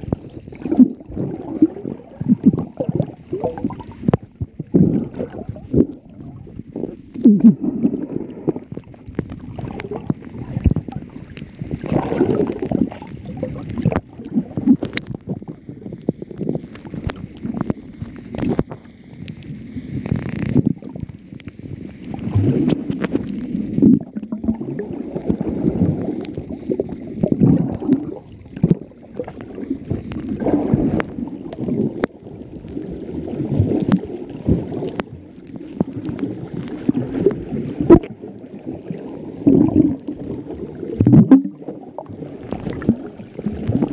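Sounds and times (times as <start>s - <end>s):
underwater rumbling and sloshing: 0.0s - 43.9s.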